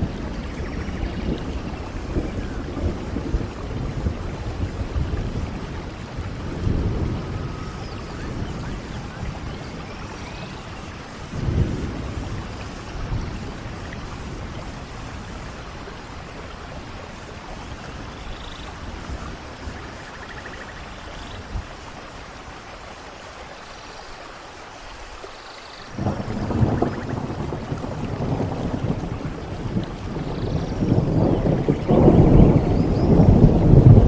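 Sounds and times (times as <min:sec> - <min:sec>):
thunder rumbling: 0:00.0 - 0:22.0, 0:25.9 - 0:34.0
heavy rain: 0:00.0 - 0:34.0.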